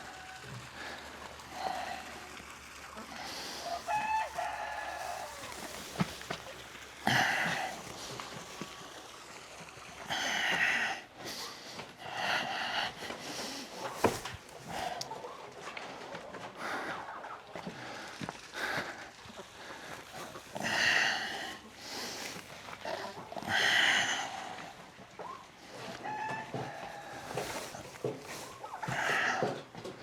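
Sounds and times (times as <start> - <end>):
farm animals calling: 3.0 - 9.2, 9.8 - 30.0.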